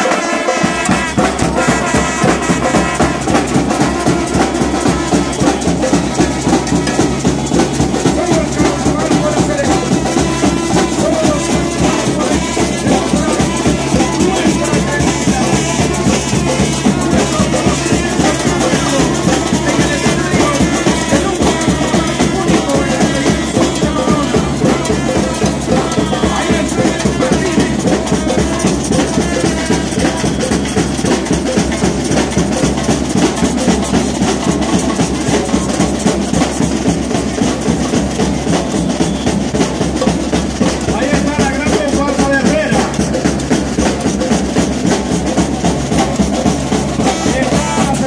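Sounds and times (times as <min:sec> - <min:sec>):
carnival music with drums and shakers: 0:00.0 - 0:48.0.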